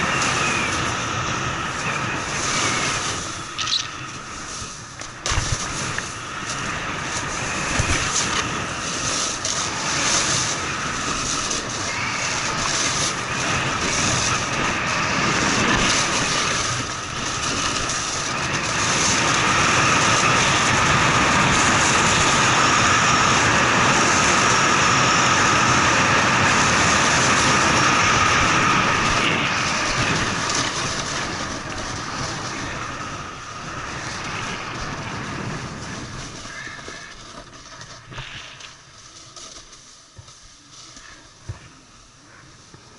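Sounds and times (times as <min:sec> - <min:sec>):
snowboard scraping over snow: 0:00.0 - 0:42.9.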